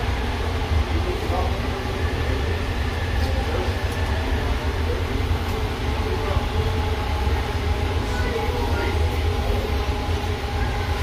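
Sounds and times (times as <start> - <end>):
train car rumbling on guideway: 0.0 - 11.0.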